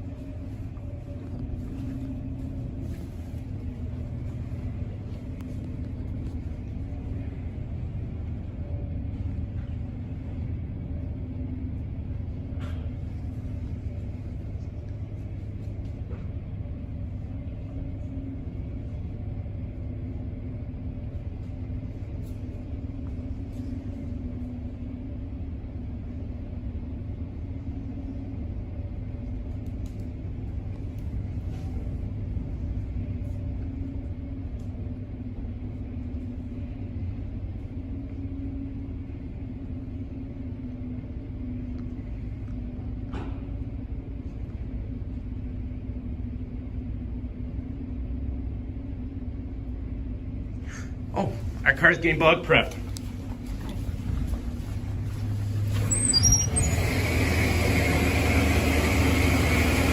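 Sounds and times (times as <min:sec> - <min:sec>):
car wash machinery rumbling: 0:00.0 - 0:59.9.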